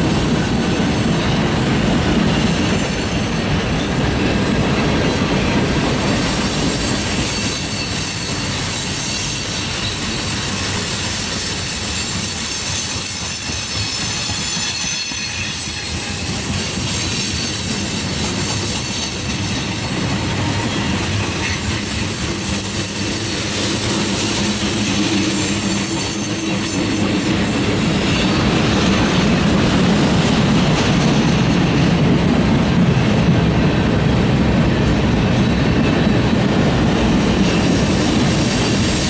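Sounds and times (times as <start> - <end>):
train rolling past: 0.0 - 39.0.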